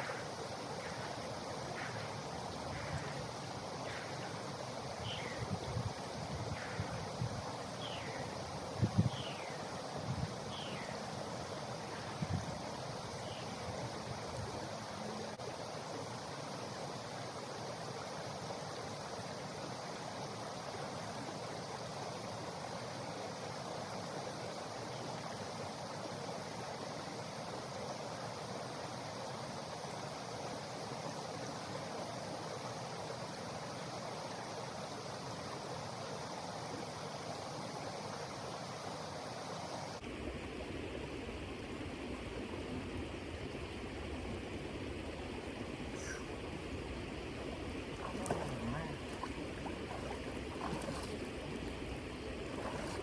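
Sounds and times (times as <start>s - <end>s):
creek water rushing: 0.0s - 40.1s, 40.7s - 53.0s.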